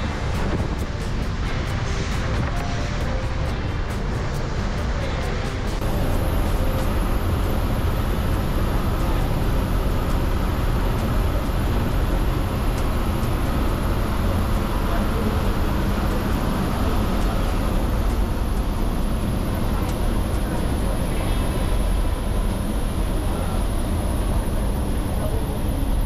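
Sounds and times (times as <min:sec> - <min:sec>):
bus engine drone: 0:00.0 - 0:26.0
road noise on wet highway: 0:00.0 - 0:26.0.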